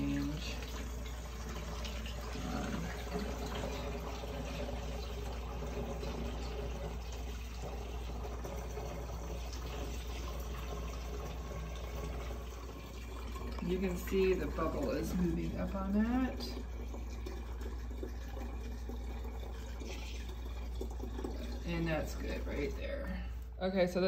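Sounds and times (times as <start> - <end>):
water pouring through funnel: 0.0 - 23.6.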